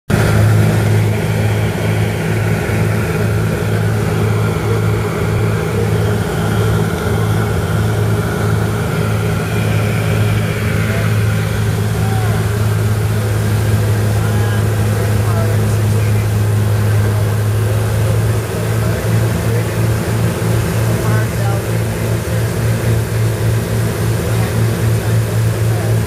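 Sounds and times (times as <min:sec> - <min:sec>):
airplane engines droning in cabin: 0:00.1 - 0:26.0.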